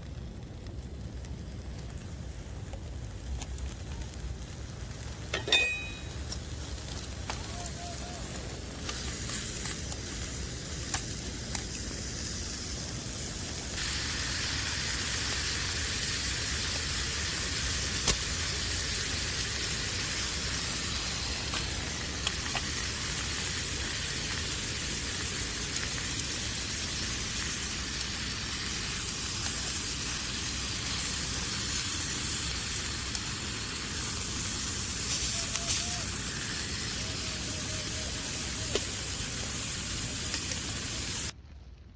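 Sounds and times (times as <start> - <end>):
fire crackles: 0.0 - 41.9
wood fire hissing: 0.0 - 41.9.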